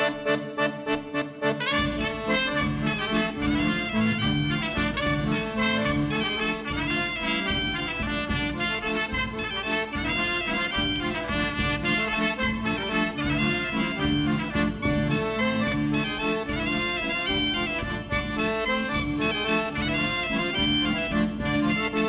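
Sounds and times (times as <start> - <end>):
instrumental folk dance music: 0.0 - 22.0.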